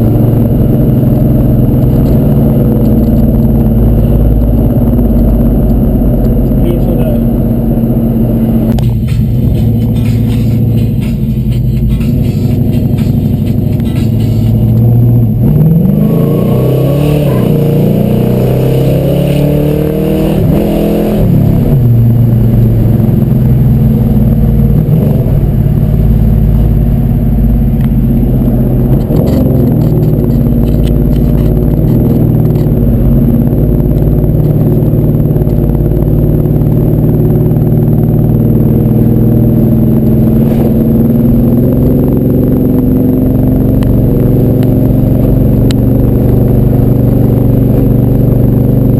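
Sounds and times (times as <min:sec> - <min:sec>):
car engine while driving: 0:00.0 - 0:48.9
road noise: 0:00.0 - 0:48.9.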